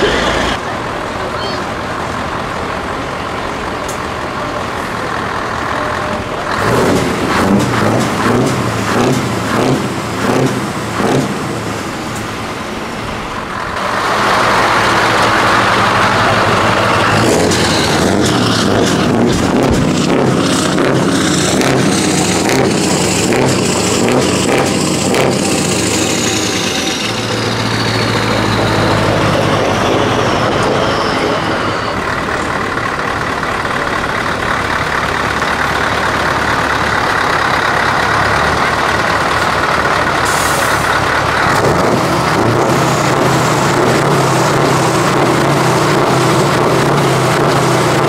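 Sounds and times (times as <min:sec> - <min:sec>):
truck engine with open exhaust: 0:00.0 - 0:48.0.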